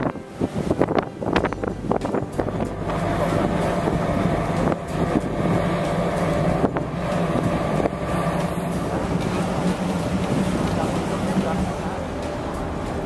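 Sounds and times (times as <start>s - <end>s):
ship engine hum: 0.0s - 13.0s
wind buffeting microphone: 0.0s - 13.0s.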